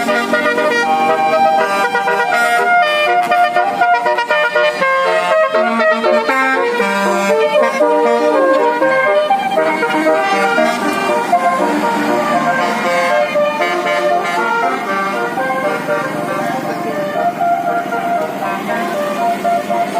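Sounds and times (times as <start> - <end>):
musical bus horns playing tune: 0.0 - 19.9.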